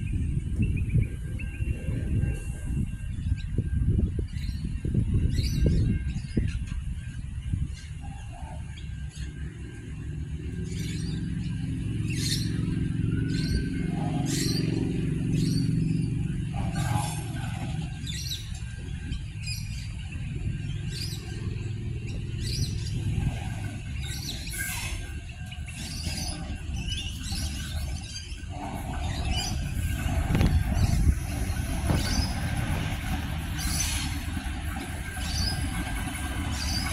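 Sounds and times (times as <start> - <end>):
birds chirping: 0.0 - 36.9
diesel railcar engine drone: 0.0 - 36.9.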